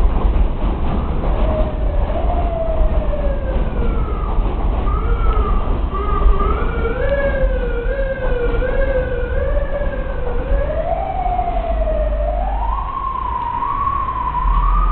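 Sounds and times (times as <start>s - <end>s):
train cars rumbling on track: 0.0s - 14.9s
train motors whining: 0.7s - 14.9s.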